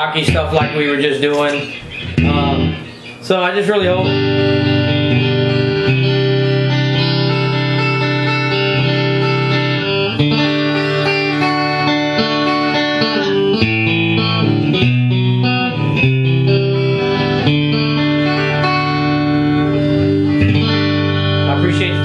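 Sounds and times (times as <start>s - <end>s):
electric guitar notes and chords: 0.0s - 22.0s.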